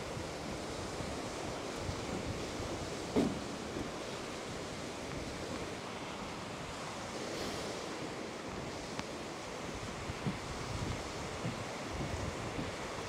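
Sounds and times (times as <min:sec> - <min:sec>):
waves washing onto beach: 0:00.0 - 0:13.0
wind: 0:00.0 - 0:13.0.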